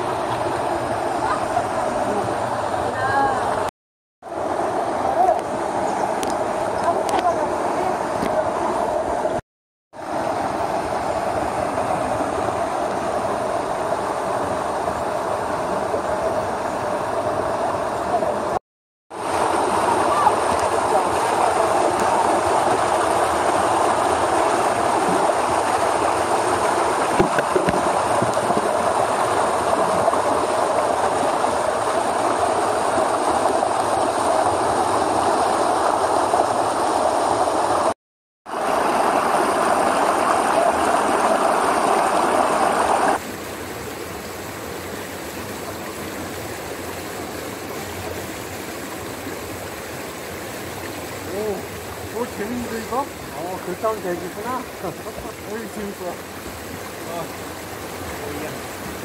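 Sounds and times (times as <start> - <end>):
stream rushing over rocks: 0.0 - 9.4, 10.0 - 59.0.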